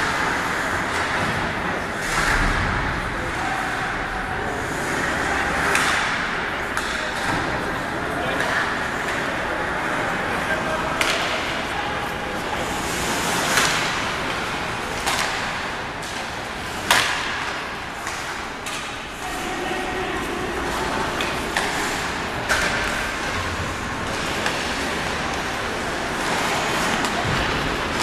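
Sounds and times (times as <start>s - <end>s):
hockey sticks and puck clacking: 0.0s - 28.0s
murmur of spectator chatter: 0.0s - 28.0s.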